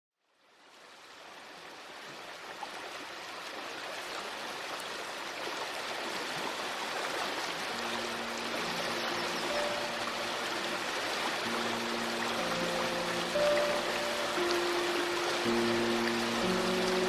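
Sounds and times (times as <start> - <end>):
river water rushing: 0.7 - 17.0.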